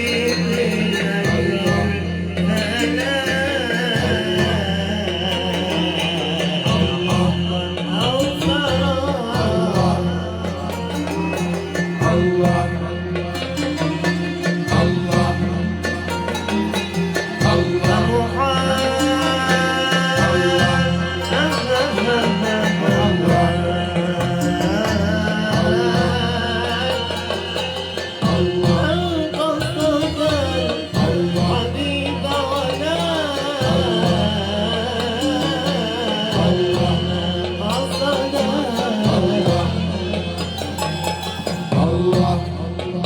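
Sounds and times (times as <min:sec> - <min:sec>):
ensemble melodic line: 0:00.0 - 0:43.0.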